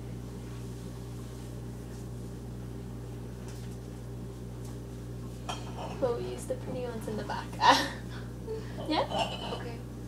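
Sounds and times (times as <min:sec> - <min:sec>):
appliance electric hum: 0:00.0 - 0:10.0.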